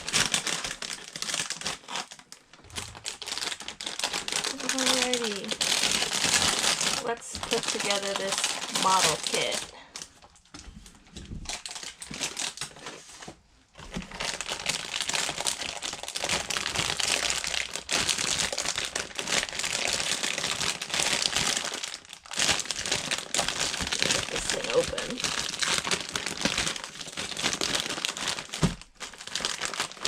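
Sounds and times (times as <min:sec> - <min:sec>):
plastic bags crinkling: 0:00.0 - 0:30.0.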